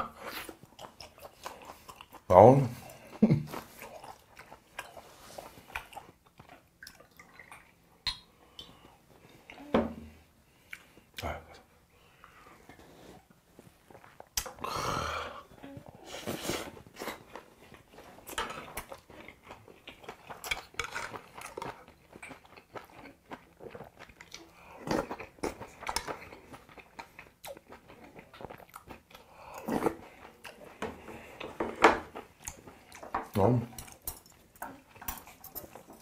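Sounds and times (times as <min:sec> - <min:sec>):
chewing and mouth sounds: 0:00.1 - 0:09.6, 0:16.6 - 0:36.0.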